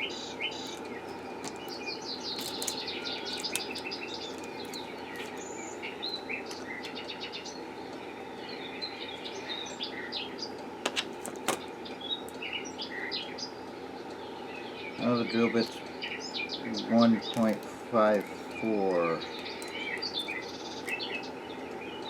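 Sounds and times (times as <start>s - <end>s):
background hum: 0.0s - 22.0s
small birds chirping: 0.0s - 22.0s.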